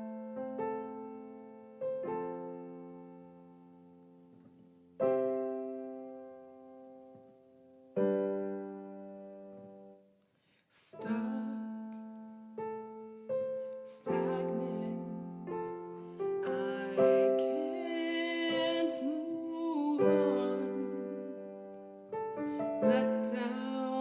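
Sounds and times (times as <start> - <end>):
piano playing slow chords: 0.0 - 10.2, 10.9 - 24.0.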